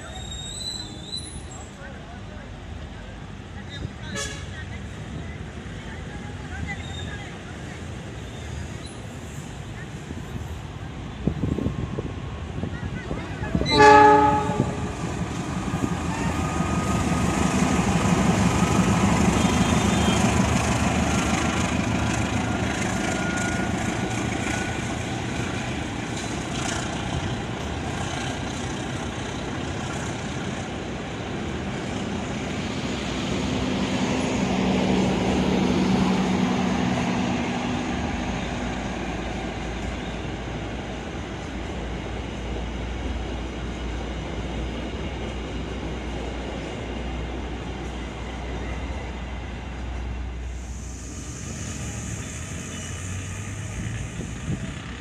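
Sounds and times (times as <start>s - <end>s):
carriages rumbling on rails: 0.0s - 55.0s
locomotive engine drone: 9.4s - 55.0s.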